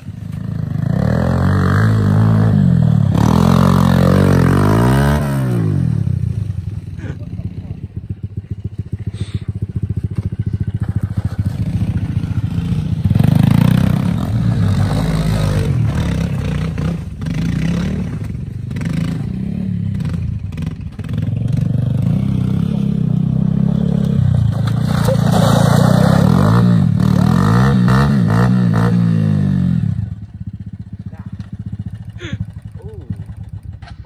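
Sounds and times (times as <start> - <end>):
pit bike engine revving: 0.3 - 34.0.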